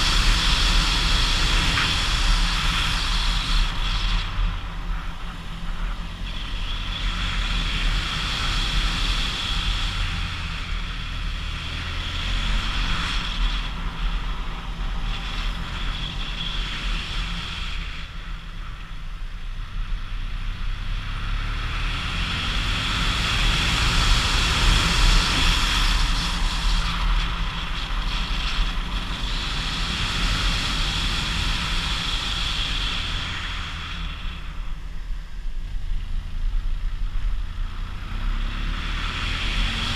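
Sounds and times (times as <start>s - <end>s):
wind rushing over microphone: 0.0s - 19.0s, 21.2s - 39.9s
vehicle engine running: 0.0s - 39.9s.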